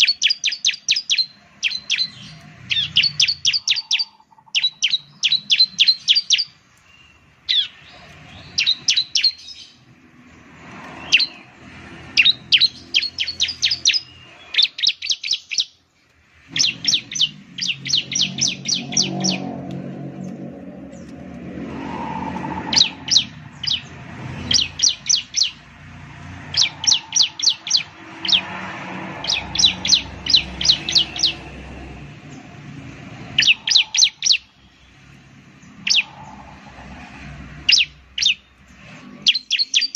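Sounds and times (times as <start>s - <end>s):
bird singing sharp high notes: 0.0s - 9.8s, 10.9s - 15.8s, 16.5s - 39.9s.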